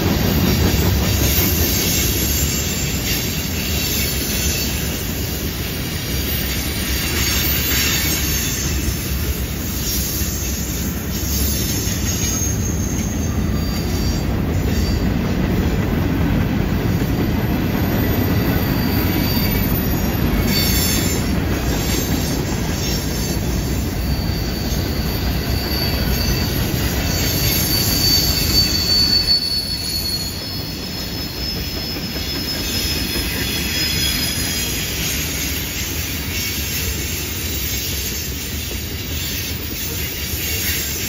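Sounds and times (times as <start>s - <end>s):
train wheels rumbling on rails: 0.0s - 41.0s
high-pitched wheel flange squeal: 1.1s - 15.2s, 17.8s - 41.0s.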